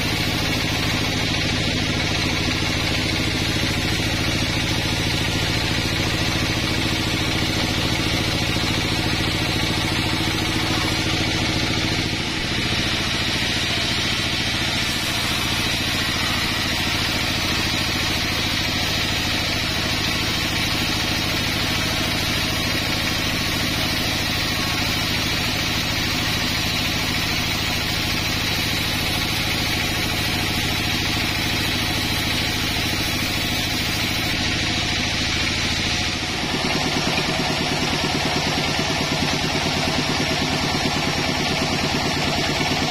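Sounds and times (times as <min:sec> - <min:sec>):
band saw cutting wood: 0:00.0 - 0:42.9.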